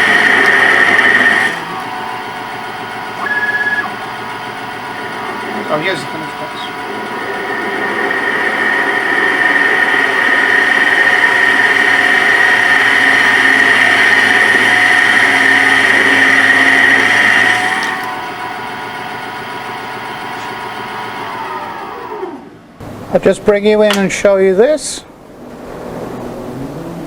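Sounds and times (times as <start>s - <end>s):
high machining whine: 0.0s - 22.6s
lathe machining: 0.0s - 23.2s.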